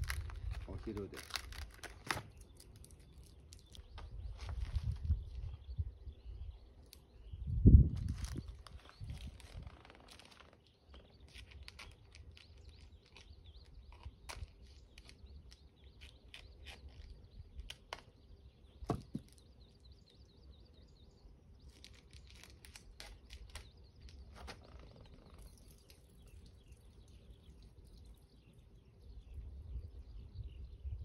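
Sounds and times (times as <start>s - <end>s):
faint bird chirping: 0.1s - 31.0s.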